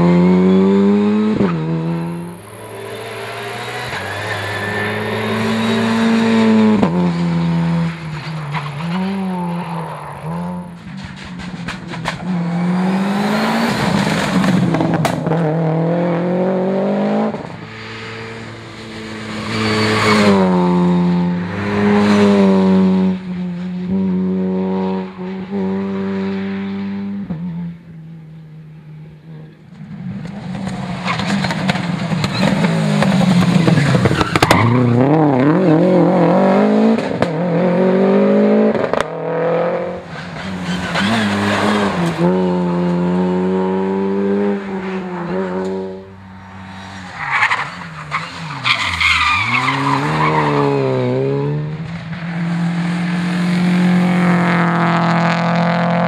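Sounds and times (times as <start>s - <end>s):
rally car engine revving: 0.0s - 56.0s
second rally car engine: 0.0s - 56.0s.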